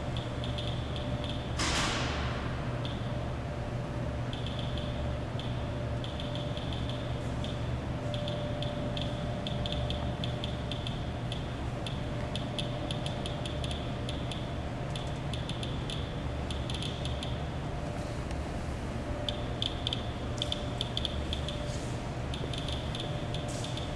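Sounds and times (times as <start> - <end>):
radiation detector clicking: 0.0 - 2.2, 2.8 - 3.2, 4.2 - 17.5, 19.2 - 23.9.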